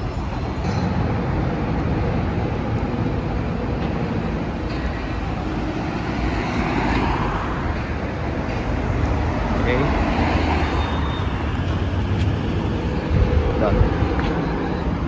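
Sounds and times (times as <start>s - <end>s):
vehicle rumbling in motion: 0.0s - 15.0s.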